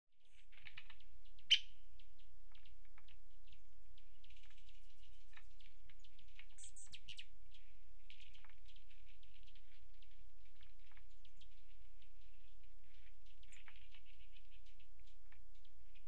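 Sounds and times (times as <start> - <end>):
low steady hum: 0.2 - 16.0
small birds chirping: 0.2 - 16.0.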